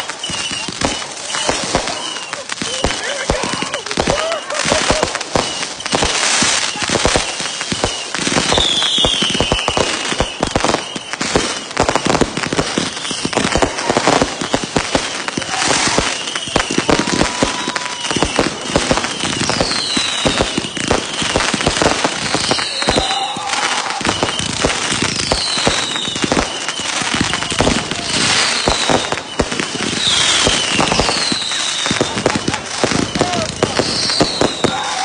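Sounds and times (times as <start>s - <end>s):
falling firework whistles: 0.0s - 35.0s
fireworks bangs and crackle: 0.0s - 35.0s.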